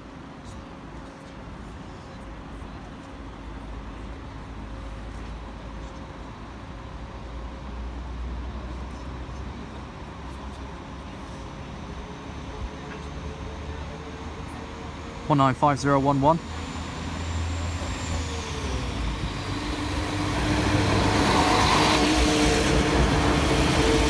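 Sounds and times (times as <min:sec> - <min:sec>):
train engine rumbling: 0:00.0 - 0:24.0.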